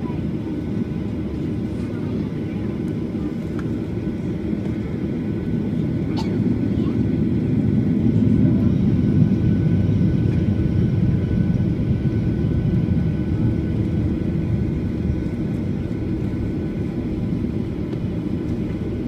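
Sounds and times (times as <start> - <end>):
steady low rumble: 0.4 - 19.0.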